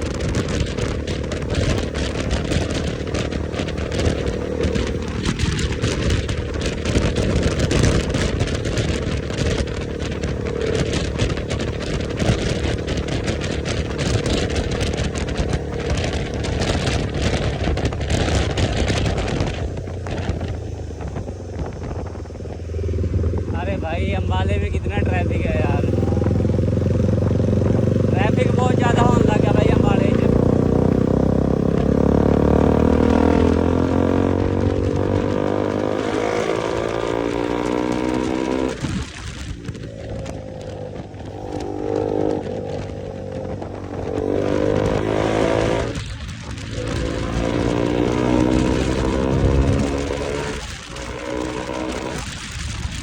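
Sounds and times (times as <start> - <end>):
motorcycle engine rumble: 0.0 - 53.0
wind buffeting on microphone: 0.0 - 53.0.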